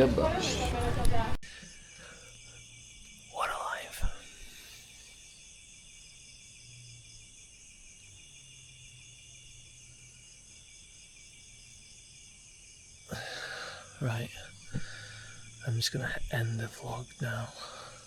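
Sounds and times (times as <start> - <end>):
crickets trilling: 0.0 - 18.0
faint low hum: 0.0 - 18.0.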